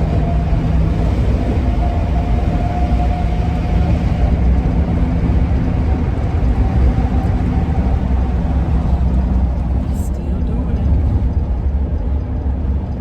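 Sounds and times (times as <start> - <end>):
van road and engine rumble: 0.0 - 13.0
wind howl from roof rack: 0.0 - 13.0.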